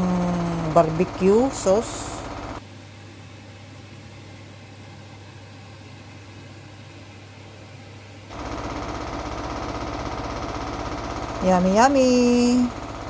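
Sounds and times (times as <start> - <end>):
appliance electrical hum: 0.0 - 13.0.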